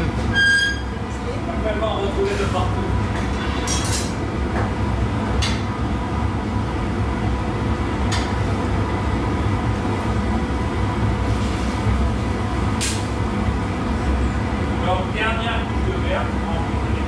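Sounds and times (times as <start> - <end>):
gas furnace roaring: 0.0 - 17.0.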